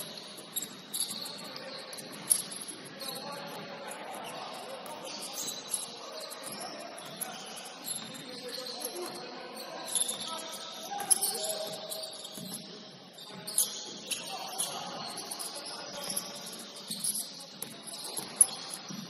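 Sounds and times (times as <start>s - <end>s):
shoes squeaking on gym floor: 0.0s - 19.0s
murmur of distant voices: 0.9s - 19.0s.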